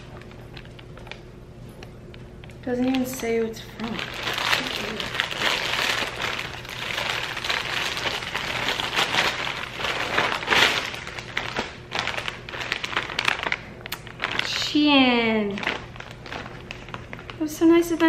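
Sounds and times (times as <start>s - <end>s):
plastic mailer bag crinkling and tearing: 0.0s - 1.3s, 2.2s - 17.9s
plastic wrapping rustling: 0.0s - 18.0s.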